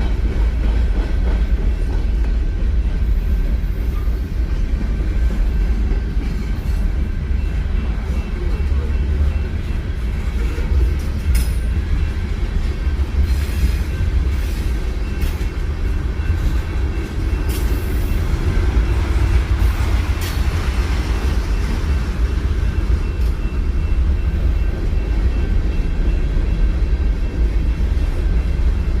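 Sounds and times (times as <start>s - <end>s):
wheels and couplings clanking: 0.0s - 26.6s
train rumbling past: 0.0s - 29.0s.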